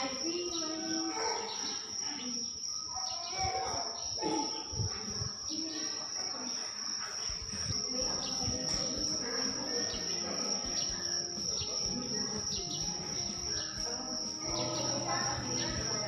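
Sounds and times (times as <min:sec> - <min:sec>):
indistinct background voices: 0:00.0 - 0:16.0
insects droning: 0:00.0 - 0:16.0.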